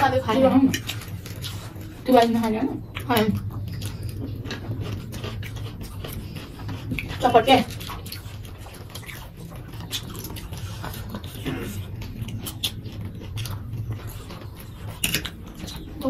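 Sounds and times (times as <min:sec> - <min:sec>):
people chewing food: 0:00.0 - 0:16.0
steady low hum: 0:00.0 - 0:16.0.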